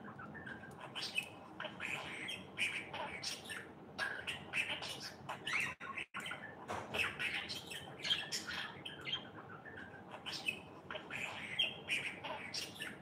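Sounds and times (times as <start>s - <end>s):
budgerigar chirping: 0.0s - 13.0s.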